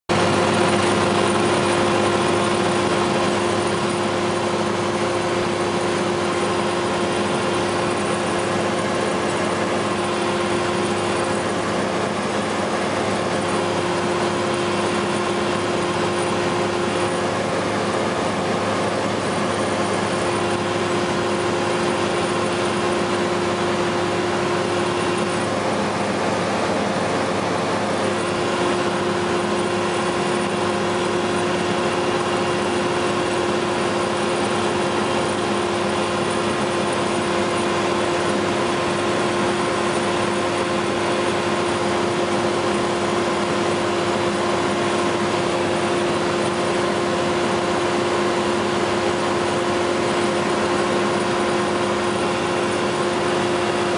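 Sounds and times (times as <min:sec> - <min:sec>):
ultralight aircraft engine droning: 0:00.1 - 0:53.9.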